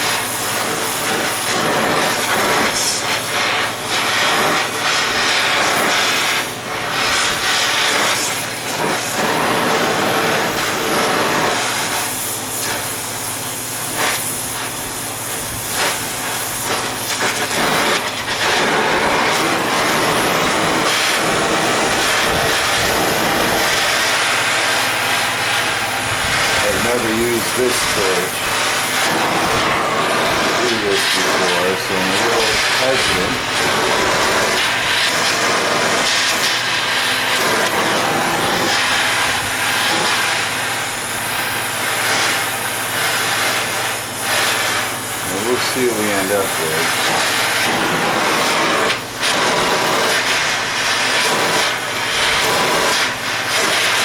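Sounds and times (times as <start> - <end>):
gas torch flame hissing: 0.0 - 54.0.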